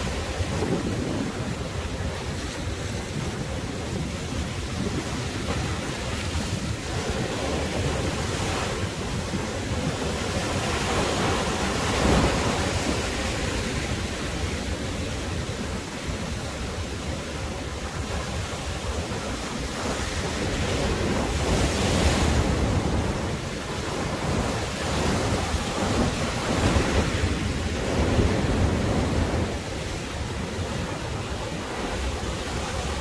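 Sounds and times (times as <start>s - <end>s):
waves breaking on beach: 0.0s - 33.0s
wind buffeting microphone: 0.0s - 33.0s.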